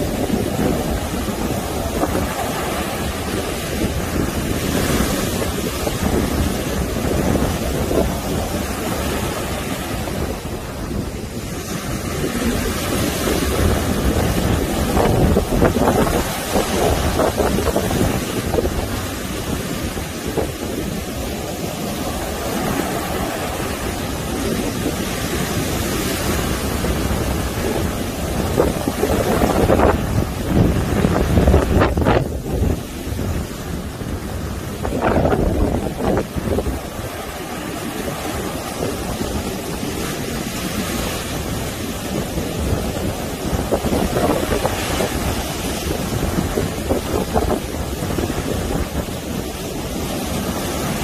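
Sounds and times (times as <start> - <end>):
surf breaking on beach: 0.0 - 51.0
wind buffeting microphone: 0.0 - 51.0.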